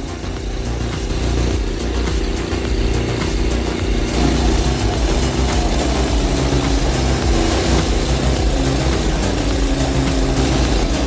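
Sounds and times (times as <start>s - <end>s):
log splitter engine running: 0.0s - 11.0s.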